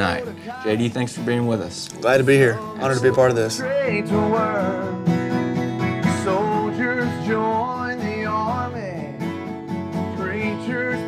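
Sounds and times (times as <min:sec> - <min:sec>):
country music with acoustic guitar: 0:00.0 - 0:11.0.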